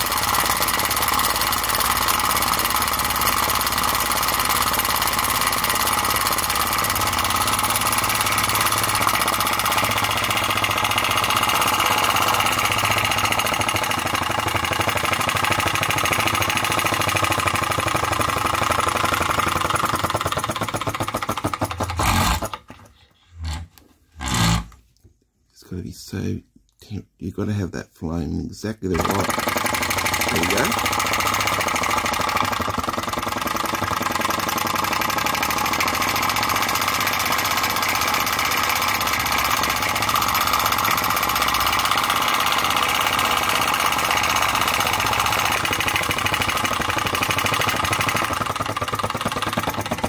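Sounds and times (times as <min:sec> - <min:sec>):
engine mechanical clatter: 0:00.0 - 0:24.7, 0:28.9 - 0:50.0.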